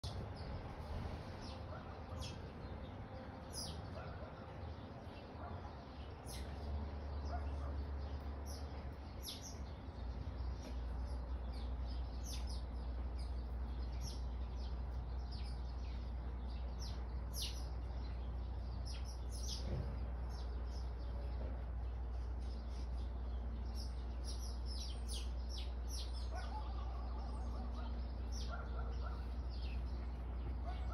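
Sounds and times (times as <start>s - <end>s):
sparrows chirping: 0.0s - 30.9s.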